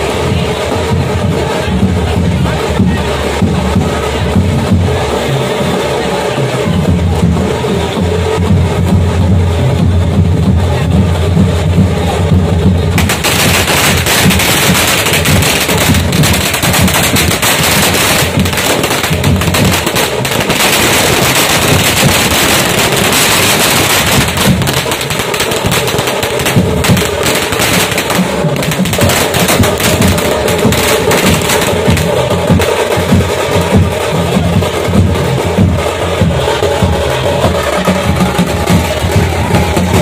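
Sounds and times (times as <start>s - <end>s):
band music with drums: 0.0s - 40.0s
firecrackers crackling: 0.0s - 40.0s.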